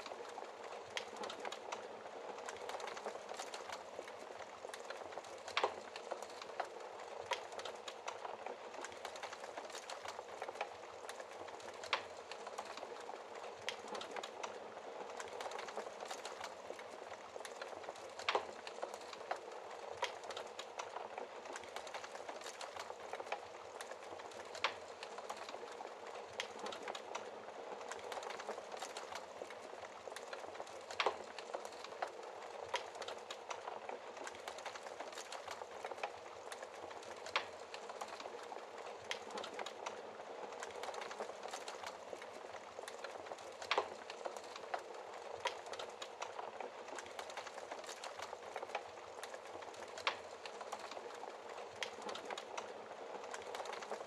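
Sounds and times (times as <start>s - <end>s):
fire popping: 0.0s - 54.0s
wood fire crackling: 0.0s - 54.0s.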